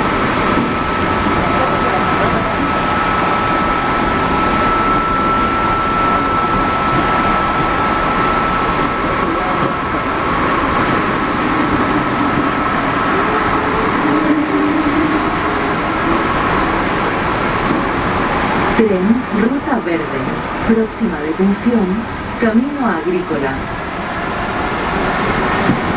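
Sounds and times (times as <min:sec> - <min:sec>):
steady high tone: 0:00.0 - 0:23.8
train rolling noise: 0:00.0 - 0:25.9.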